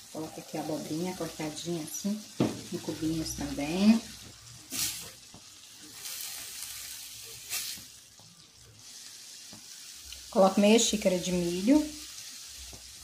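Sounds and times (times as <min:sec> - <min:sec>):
spatula stirring in a pan: 0:00.0 - 0:13.0
vegetables sizzling in a pan: 0:00.0 - 0:13.0.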